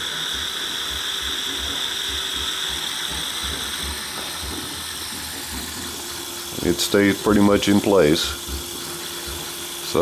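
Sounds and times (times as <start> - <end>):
pulse motor whine: 0.0 - 10.0.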